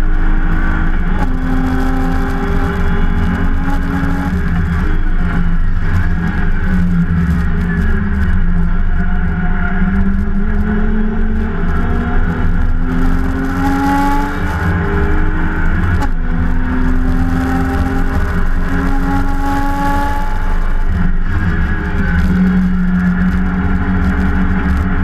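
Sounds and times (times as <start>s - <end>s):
race car engine accelerating: 0.0s - 25.0s.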